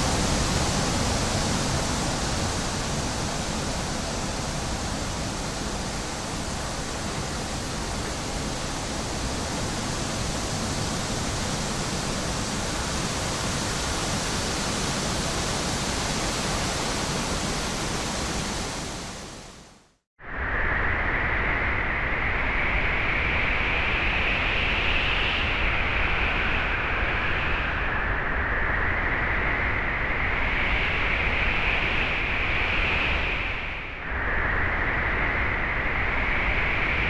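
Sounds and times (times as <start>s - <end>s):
wind blowing through trees: 0.0s - 37.0s.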